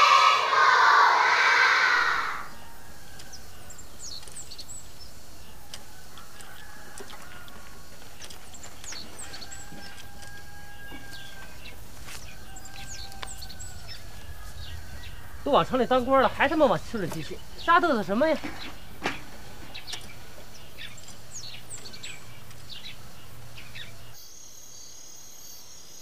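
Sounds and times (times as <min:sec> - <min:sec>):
chickens clucking: 0:00.0 - 0:24.1
small birds chirping: 0:00.0 - 0:25.6.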